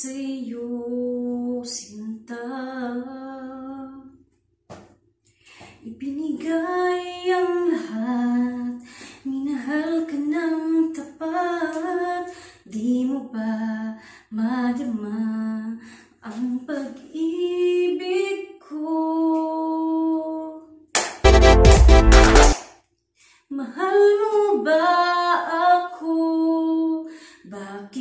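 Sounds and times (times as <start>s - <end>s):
woman singing unaccompanied: 0.0s - 4.1s, 5.8s - 20.8s, 23.5s - 28.0s.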